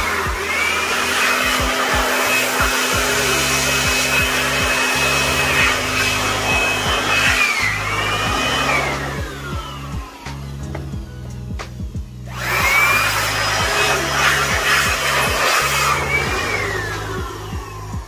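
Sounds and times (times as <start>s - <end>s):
electric blower whining: 0.0s - 18.0s.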